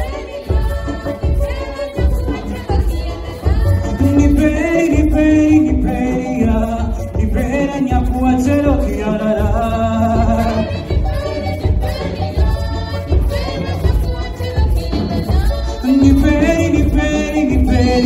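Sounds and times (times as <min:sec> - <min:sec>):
song with several voices and beat: 0:00.0 - 0:18.0.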